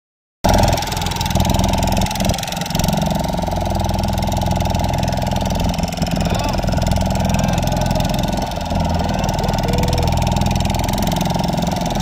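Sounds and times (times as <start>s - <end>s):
boat engine running: 0.5s - 12.0s.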